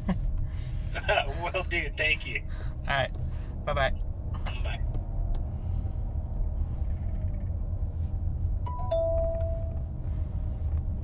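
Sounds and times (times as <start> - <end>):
road noise inside vehicle: 0.0 - 11.0.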